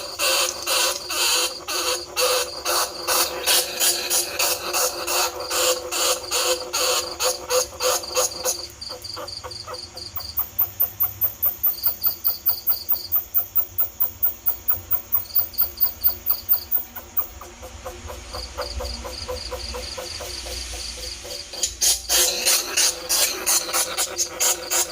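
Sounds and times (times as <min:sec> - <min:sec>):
rat squeaks: 0:00.0 - 0:20.7, 0:21.3 - 0:24.9.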